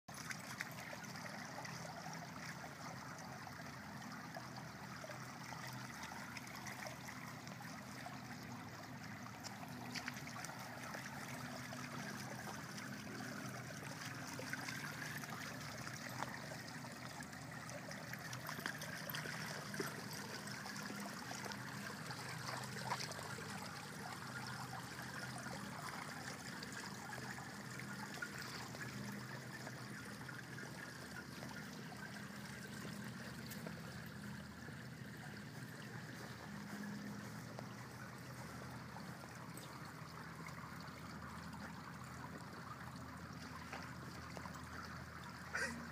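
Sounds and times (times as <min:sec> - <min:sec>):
water trickling: 0:00.1 - 0:45.9.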